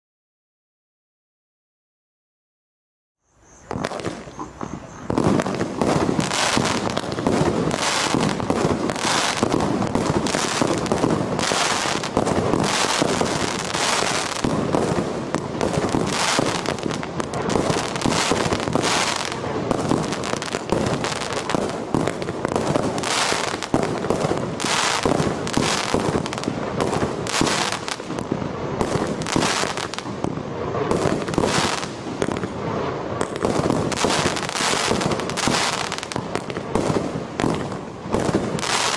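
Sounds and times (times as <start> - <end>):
dense continuous firework noise: 3.6 - 38.9
firework cake shots and bursts: 3.7 - 38.9.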